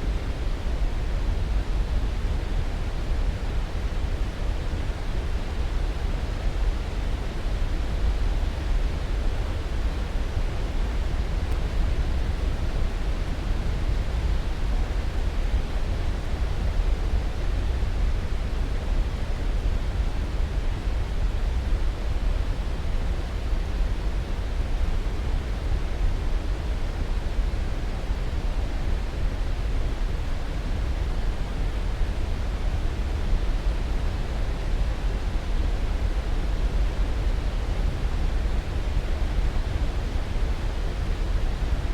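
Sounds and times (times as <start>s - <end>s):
steady pink noise hiss: 0.0s - 41.9s.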